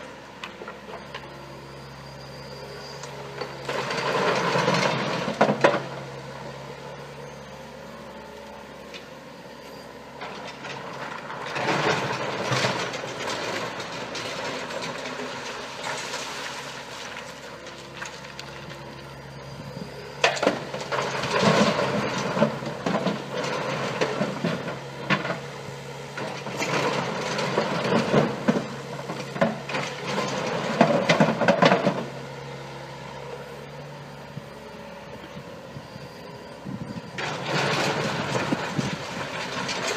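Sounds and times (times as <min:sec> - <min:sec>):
excavator engine humming: 0:00.0 - 0:39.9.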